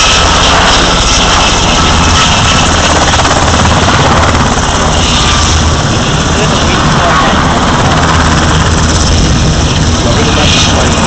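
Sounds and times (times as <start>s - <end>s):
helicopter rotor and engines: 0.0s - 11.0s.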